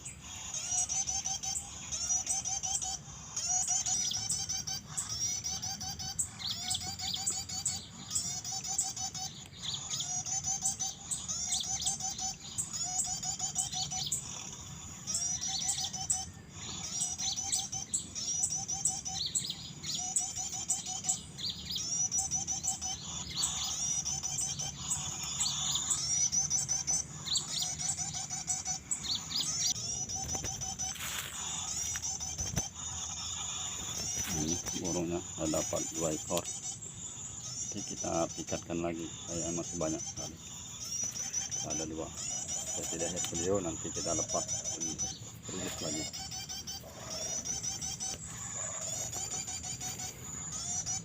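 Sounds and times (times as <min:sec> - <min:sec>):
lower bird trilling note: 0:00.0 - 0:51.0
small birds chirping: 0:00.0 - 0:51.0.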